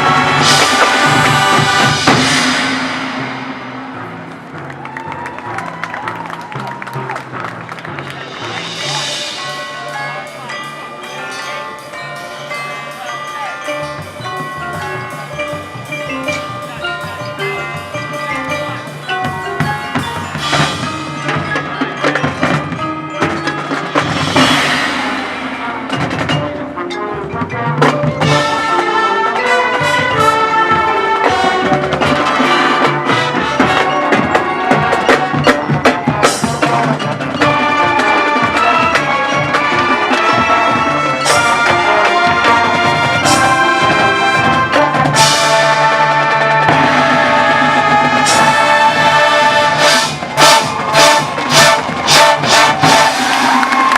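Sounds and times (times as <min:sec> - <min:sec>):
marching band playing: 0:00.0 - 0:53.9.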